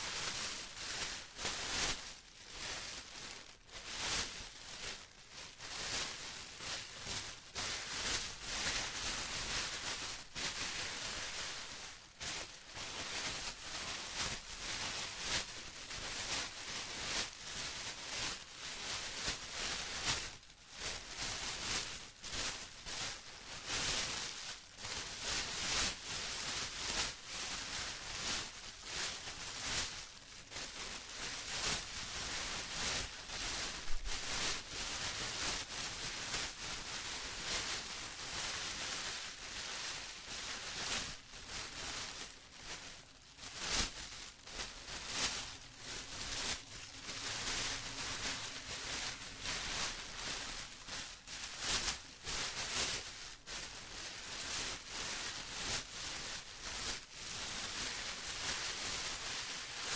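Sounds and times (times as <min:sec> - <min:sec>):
plastic rustling and crinkling: 0:00.0 - 0:59.9.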